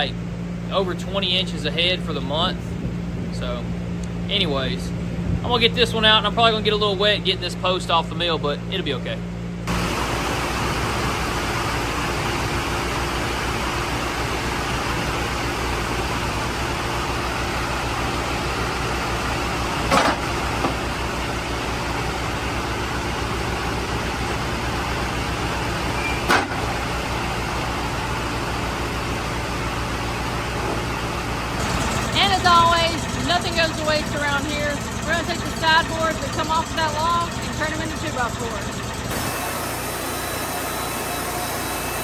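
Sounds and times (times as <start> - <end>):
sawmill engine running: 0.0 - 42.0.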